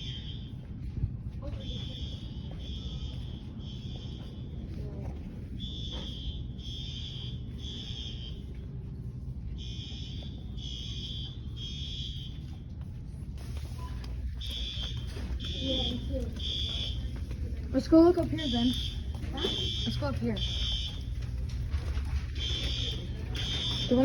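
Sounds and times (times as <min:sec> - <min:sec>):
fire alarm high-pitched beeps: 0:00.0 - 0:08.8, 0:09.5 - 0:12.9, 0:13.6 - 0:24.0.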